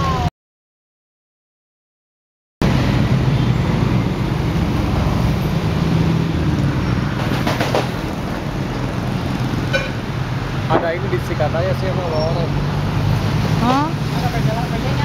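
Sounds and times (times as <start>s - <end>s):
motorbikes passing: 2.6s - 15.0s
passing vehicles rumbling: 2.6s - 15.0s.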